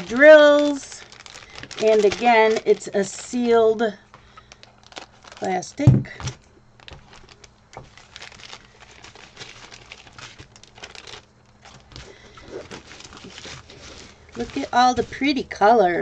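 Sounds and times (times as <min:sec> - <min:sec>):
plastic bags crinkling: 0:00.0 - 0:15.6.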